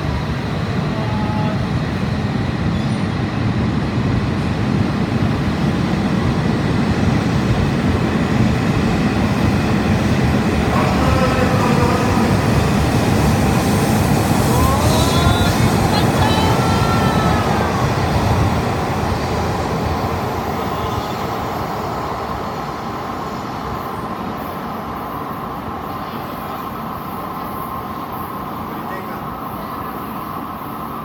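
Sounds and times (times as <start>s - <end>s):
gliding train whine: 0.0s - 31.0s
train running: 0.0s - 31.0s.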